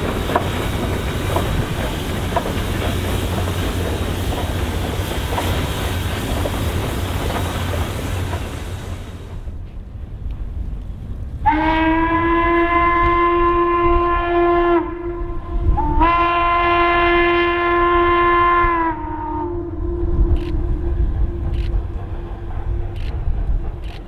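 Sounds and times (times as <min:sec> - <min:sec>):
locomotive low rumble: 0:00.0 - 0:24.0.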